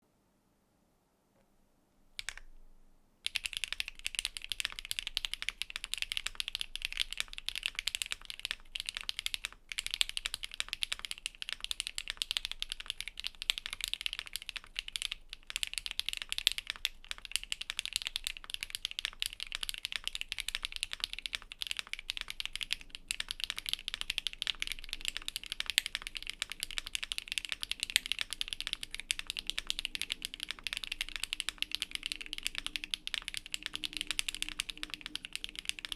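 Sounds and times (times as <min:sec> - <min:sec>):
mechanical keyboard typing: 0:02.2 - 0:02.5, 0:03.2 - 0:35.9.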